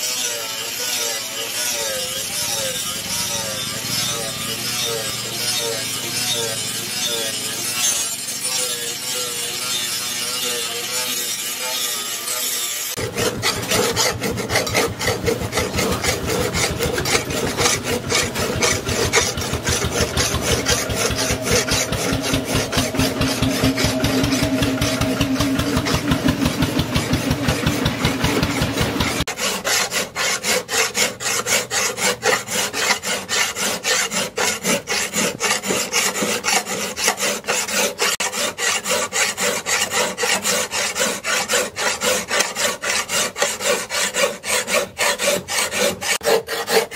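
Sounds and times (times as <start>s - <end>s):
blade scraping strokes: 0.0s - 46.9s.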